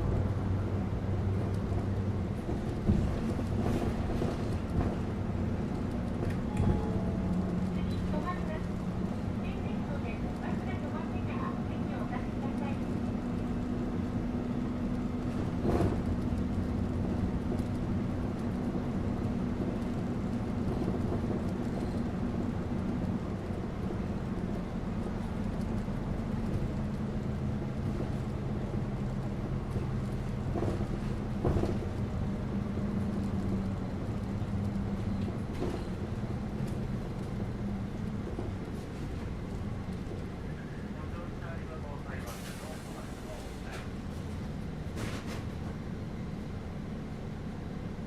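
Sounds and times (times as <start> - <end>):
bus engine hum: 0.0 - 48.0
road noise: 0.0 - 48.0.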